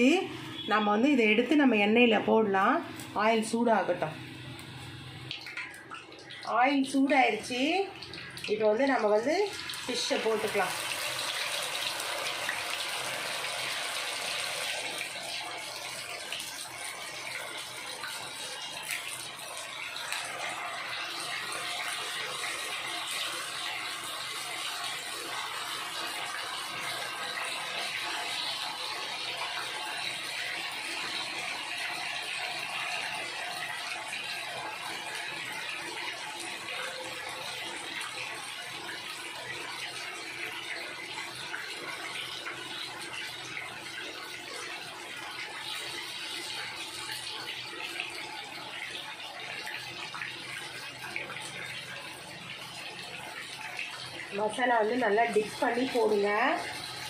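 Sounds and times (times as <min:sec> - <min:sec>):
fish deep-frying in hot oil: 0:00.0 - 0:57.0.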